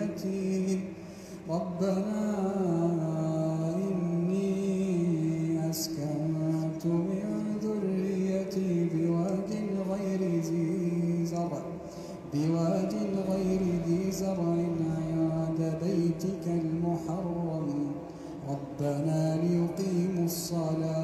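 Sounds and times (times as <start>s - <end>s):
man chanting melodic recitation: 0.0s - 21.0s.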